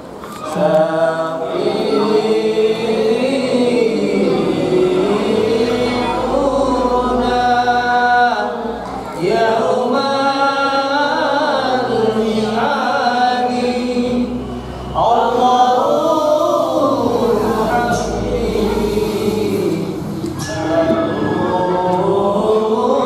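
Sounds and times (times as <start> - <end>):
men chanting devotional song: 0.4 - 23.0.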